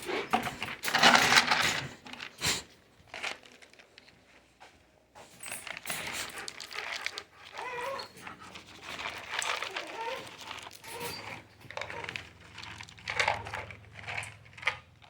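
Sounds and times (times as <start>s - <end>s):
packaging crinkling and rustling: 0.0s - 4.5s, 5.4s - 15.0s.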